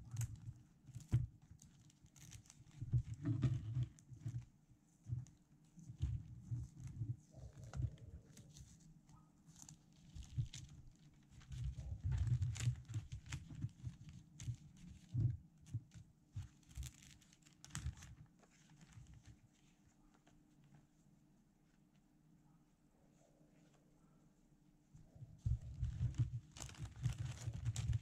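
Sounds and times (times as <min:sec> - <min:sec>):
paper rustling and crinkling: 0:00.0 - 0:20.9, 0:25.4 - 0:28.0.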